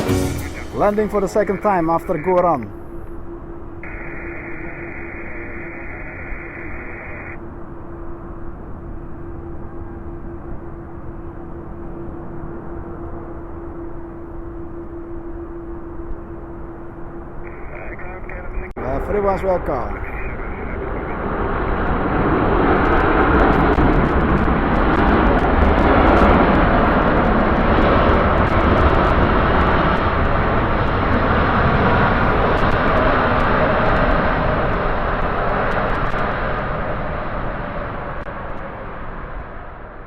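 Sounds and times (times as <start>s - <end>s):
jet engines passing: 0.0s - 40.0s.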